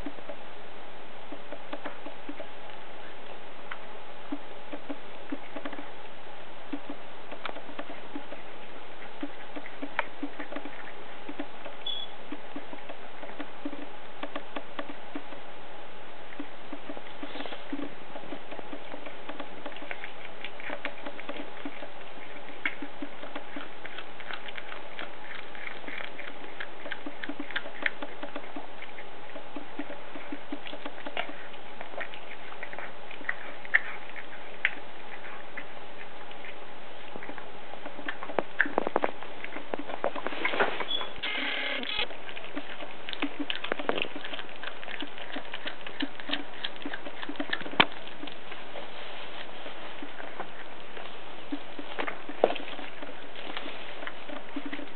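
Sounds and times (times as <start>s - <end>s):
cat chewing with crunches: 0.0s - 54.9s.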